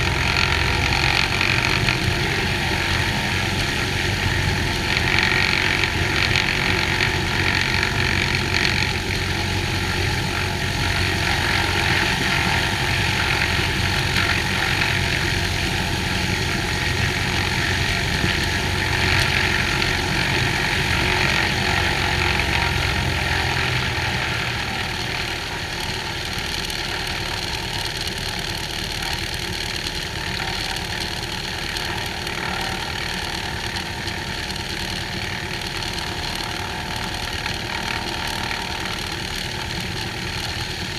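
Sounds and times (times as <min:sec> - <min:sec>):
airplane engine and propeller: 0:00.0 - 0:40.9.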